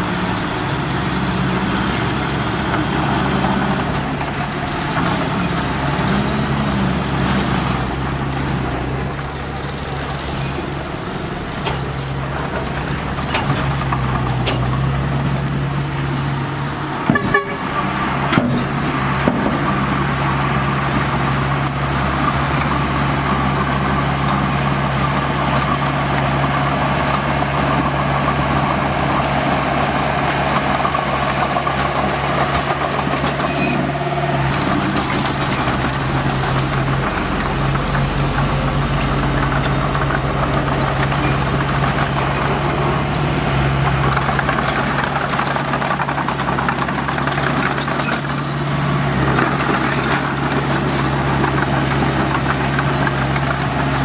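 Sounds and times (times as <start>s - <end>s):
heavy equipment diesel engine: 0.0s - 54.0s.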